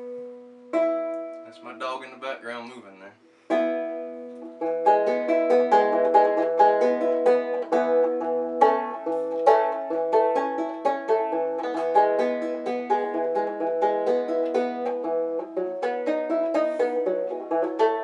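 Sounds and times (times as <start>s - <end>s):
banjo plucked notes: 0.0s - 18.0s.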